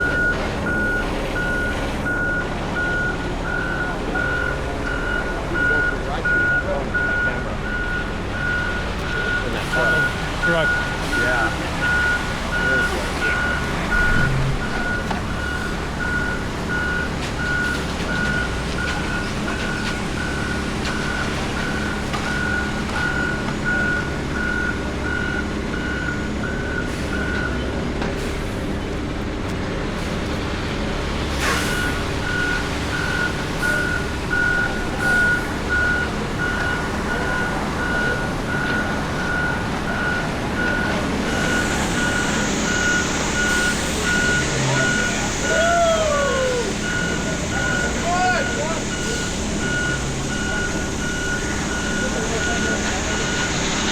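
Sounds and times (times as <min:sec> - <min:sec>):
back-up alarm beeping: 0:00.0 - 0:27.7, 0:31.5 - 0:53.6
diesel engine running: 0:00.0 - 0:53.9.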